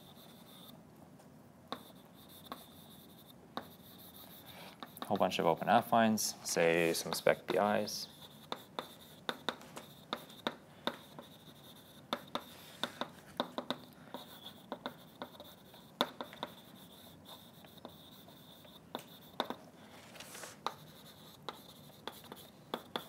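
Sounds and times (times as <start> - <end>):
chalk writing on a blackboard: 0.0 - 0.8, 1.7 - 23.0.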